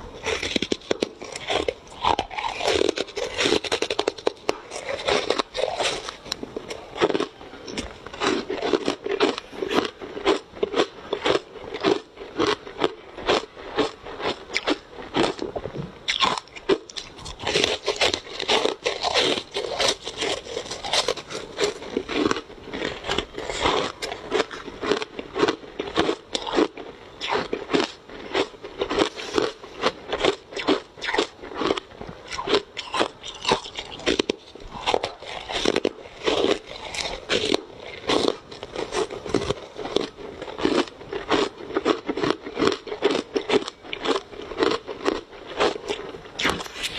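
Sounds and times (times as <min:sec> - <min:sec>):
person crunching ice: 0:00.0 - 0:46.9.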